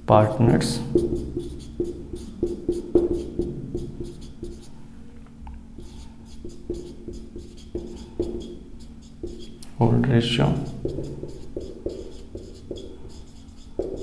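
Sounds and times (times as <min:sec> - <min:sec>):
steady low hum: 0:00.0 - 0:14.0
pen writing strokes: 0:00.6 - 0:04.7, 0:05.8 - 0:09.6, 0:10.6 - 0:14.0.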